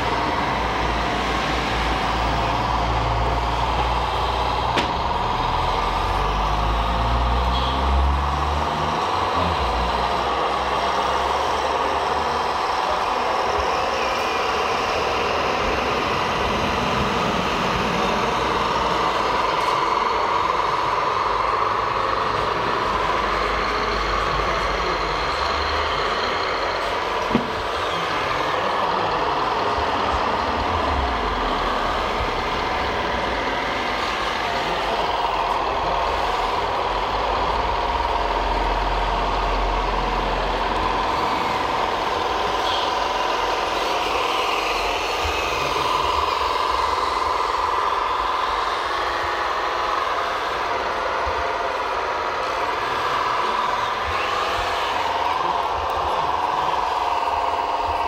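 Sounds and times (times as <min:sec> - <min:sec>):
electric motor and pump whine: 0:00.0 - 0:58.0.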